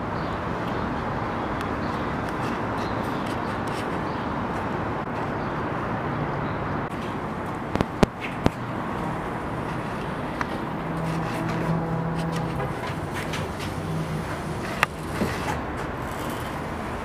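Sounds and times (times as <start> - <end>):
city street rushing hum: 0.0 - 17.0.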